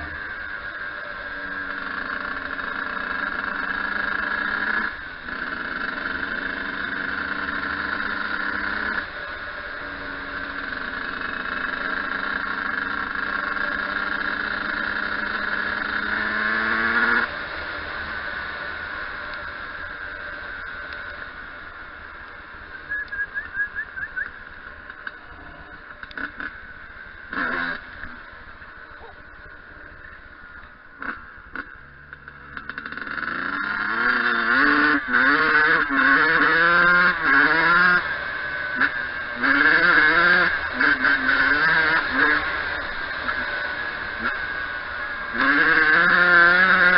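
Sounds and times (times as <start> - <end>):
two-stroke engine revving: 0.0 - 46.9.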